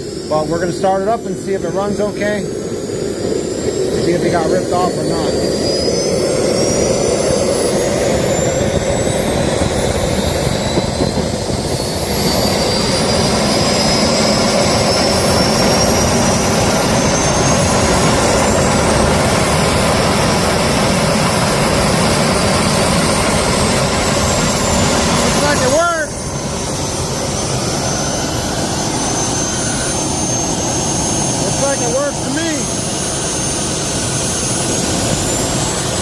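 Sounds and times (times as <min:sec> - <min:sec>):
jet engine whining: 0:00.0 - 0:36.0.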